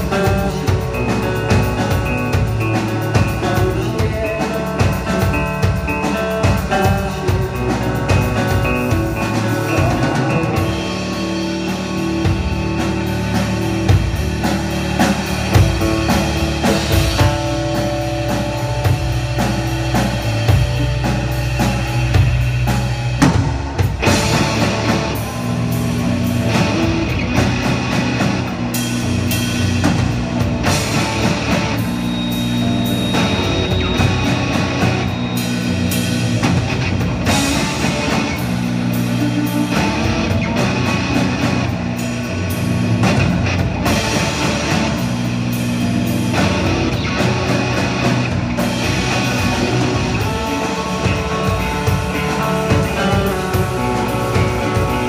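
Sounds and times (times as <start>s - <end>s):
amplified electric guitar: 0.0s - 55.0s
drum kit: 0.0s - 55.0s
electric bass: 0.0s - 55.0s.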